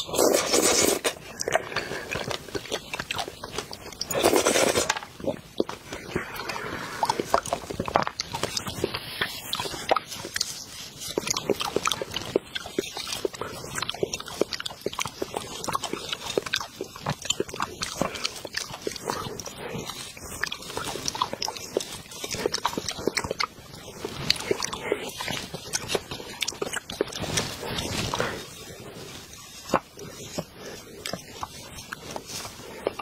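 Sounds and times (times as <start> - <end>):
wet chewing and mouth clicks: 0.0 - 33.0.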